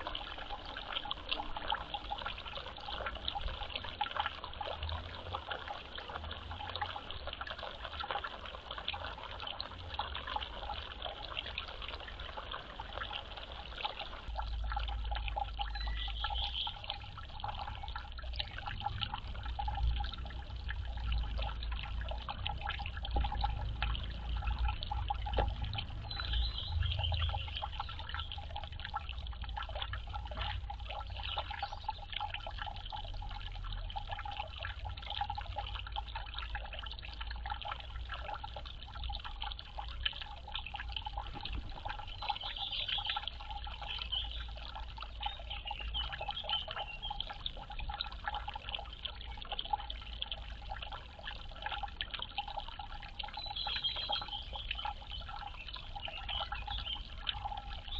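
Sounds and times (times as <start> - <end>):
dripping water: 0.0 - 57.9
water trickling and pouring: 0.0 - 57.9.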